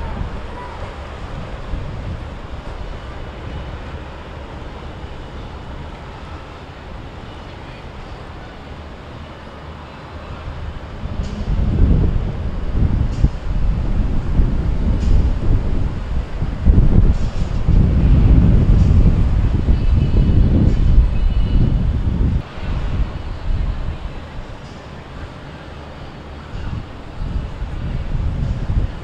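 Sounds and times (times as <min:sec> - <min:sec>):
outboard engines rumbling: 0:00.0 - 0:29.0
wind noise on microphone: 0:00.0 - 0:29.0.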